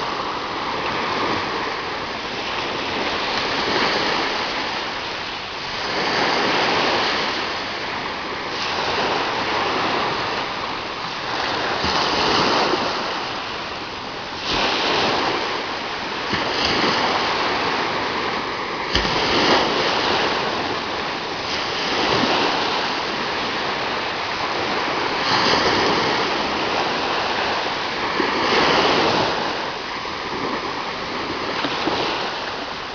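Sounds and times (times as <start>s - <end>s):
ocean surf breaking on beach: 0.0s - 32.9s.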